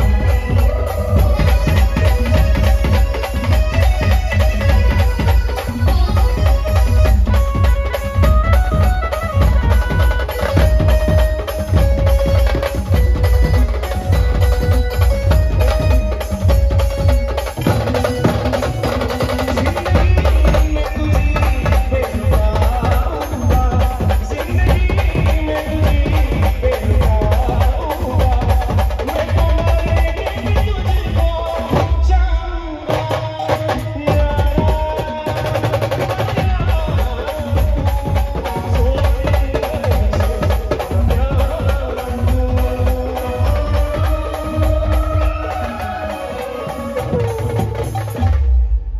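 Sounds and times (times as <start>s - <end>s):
fast drumming: 0.0s - 48.9s.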